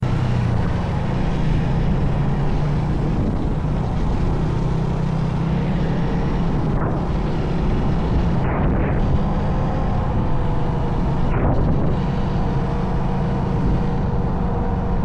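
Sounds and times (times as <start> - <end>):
road or wind noise: 0.0 - 15.0
vehicle engine rumble: 0.0 - 15.0.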